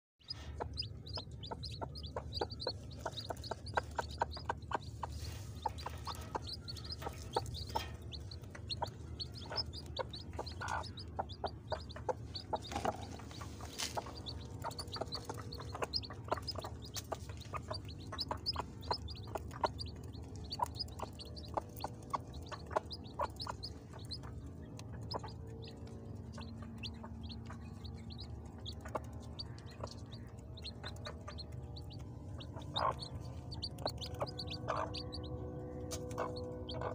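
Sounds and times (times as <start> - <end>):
hen clucking softly: 0.2 - 35.1
chicks peeping: 0.2 - 36.9
hen pecking dusty ground: 0.3 - 35.2.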